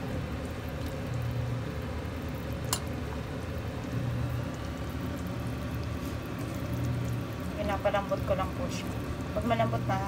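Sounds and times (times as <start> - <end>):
broth simmering and bubbling in pot: 0.0 - 10.0.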